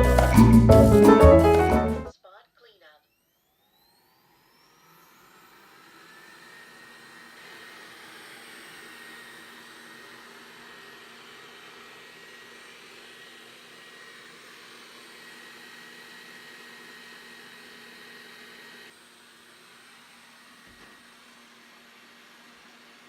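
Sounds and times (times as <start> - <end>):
robot vacuum fan whir: 3.0 - 23.0.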